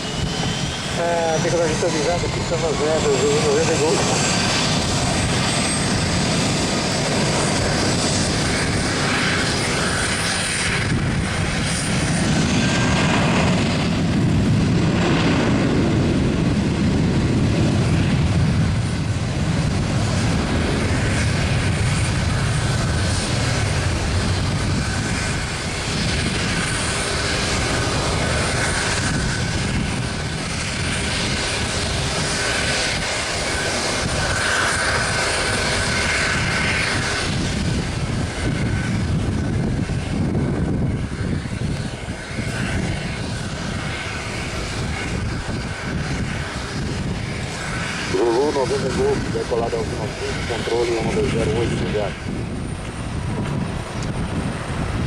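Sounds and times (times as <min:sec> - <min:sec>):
airplane engines roaring: 0:00.0 - 0:55.0.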